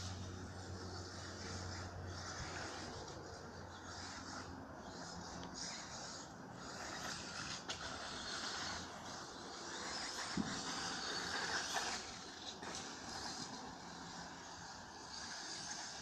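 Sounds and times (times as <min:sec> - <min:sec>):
toy car motor and tyres: 0:00.0 - 0:16.0.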